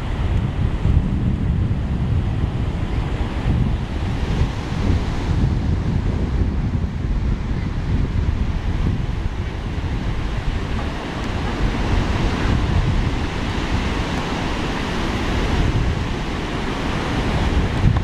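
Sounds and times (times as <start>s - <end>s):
ocean surf breaking on sand: 0.0s - 18.0s
wind rumbling on microphone: 0.0s - 18.0s.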